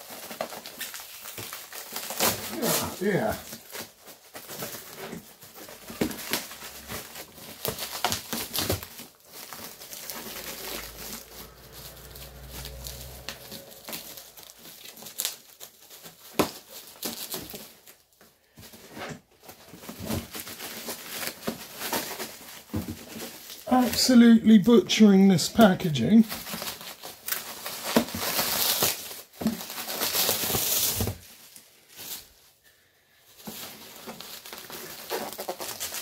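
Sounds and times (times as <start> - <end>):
plastic crackling and rustling: 0.0 - 36.0.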